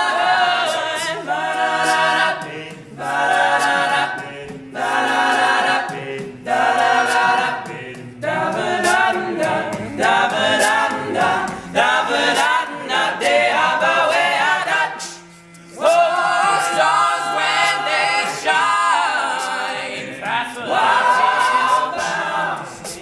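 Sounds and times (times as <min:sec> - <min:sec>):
male a cappella group singing: 0:00.0 - 0:23.0.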